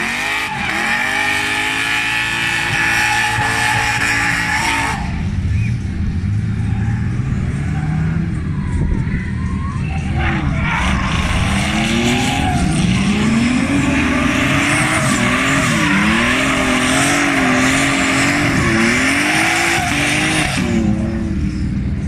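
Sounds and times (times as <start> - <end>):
car engine revving high: 0.0 - 8.4, 10.3 - 21.6.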